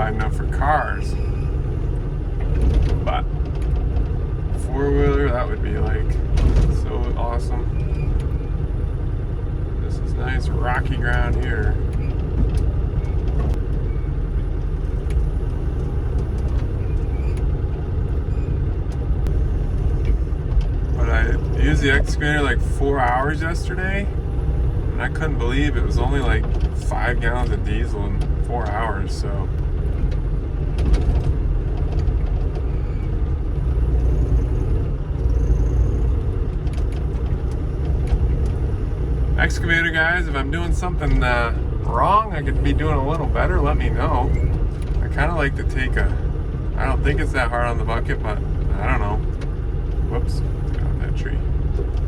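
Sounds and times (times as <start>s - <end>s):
excavator diesel engine droning: 0.0s - 52.0s.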